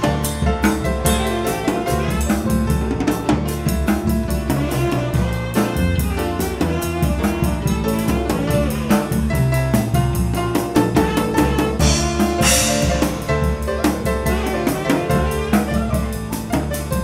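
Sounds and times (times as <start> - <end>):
drum kit hits: 0.0 - 17.0
jazz-funk band playing: 0.0 - 17.0.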